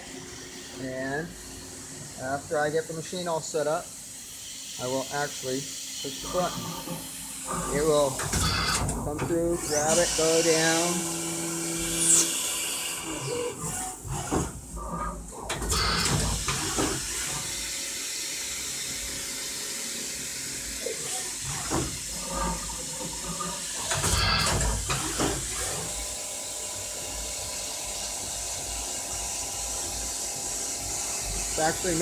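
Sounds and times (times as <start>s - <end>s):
steady machine whine: 0.0s - 13.6s, 18.8s - 32.0s
cnc machine cutting plastic: 0.0s - 32.0s.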